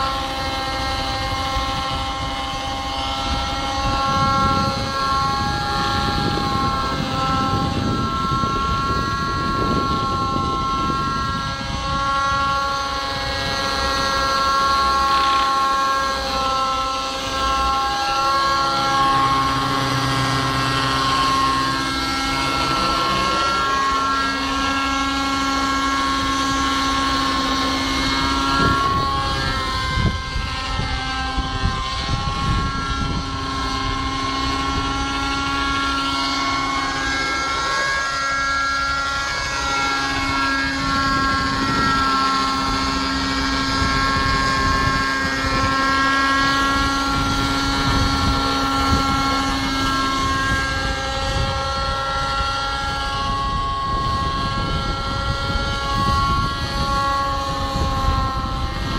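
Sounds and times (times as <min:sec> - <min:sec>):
rc helicopter engine and rotor whine: 0:00.0 - 0:58.9
wind rumble on microphone: 0:00.0 - 0:58.9.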